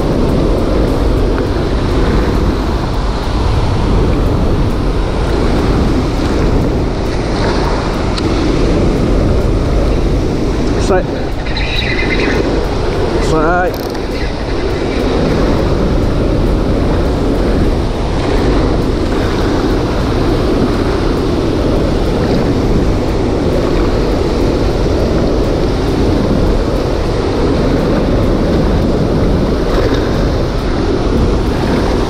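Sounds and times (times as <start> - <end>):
water rushing from dam spillway: 0.0 - 32.0.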